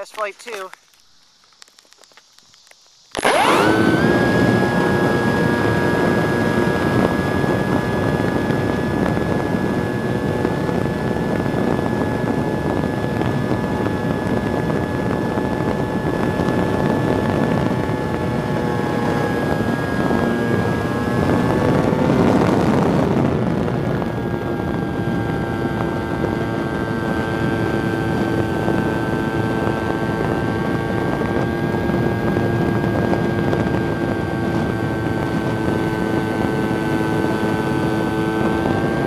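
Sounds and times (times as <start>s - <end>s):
model airplane motor whine: 1.4s - 39.0s
wind rushing on microphone: 2.5s - 39.0s.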